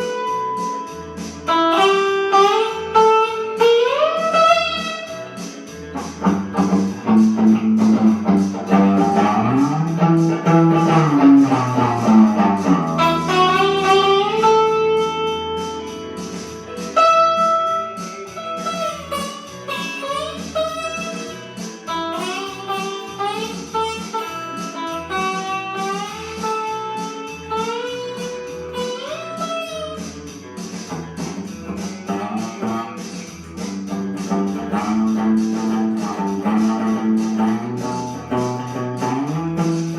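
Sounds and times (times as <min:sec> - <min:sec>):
blues lead guitar with bends: 0:00.0 - 0:39.9.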